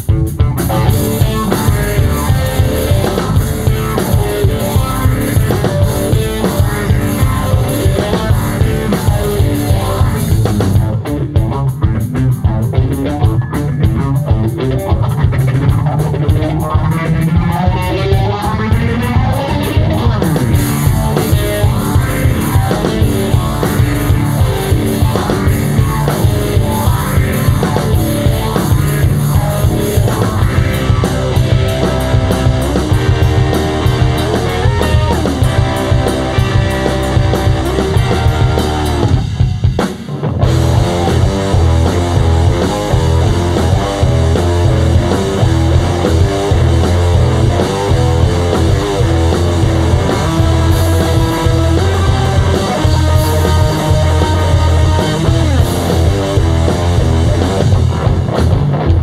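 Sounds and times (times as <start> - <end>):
driving drum kit: 0.0 - 59.0
electric guitar: 0.0 - 59.0.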